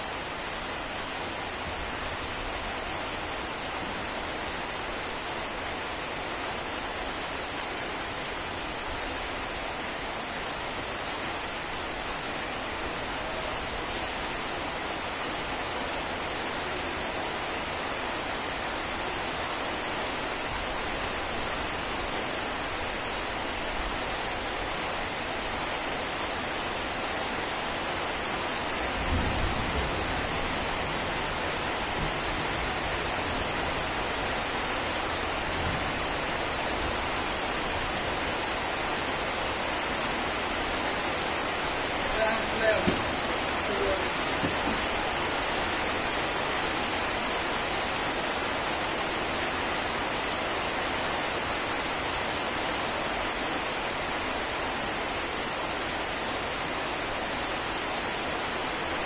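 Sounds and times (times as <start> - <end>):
rain falling on foliage: 0.0 - 59.0.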